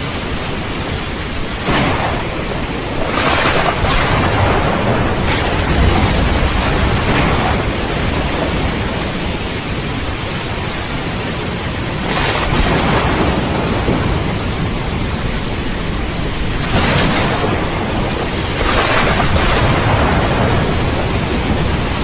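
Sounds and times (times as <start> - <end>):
heavy rain: 0.0 - 22.0
rolling thunder: 0.0 - 22.0
thunder crack: 1.6 - 9.8, 12.0 - 22.0.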